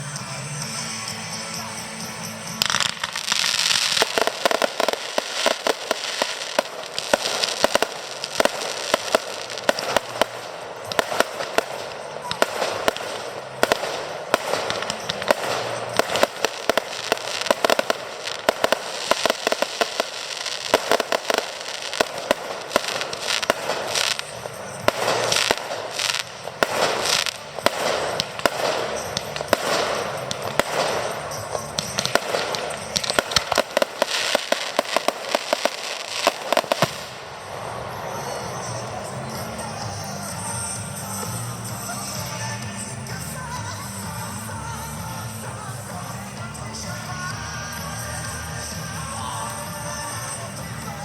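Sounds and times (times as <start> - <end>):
fireworks bangs and crackling: 0.7 - 51.0.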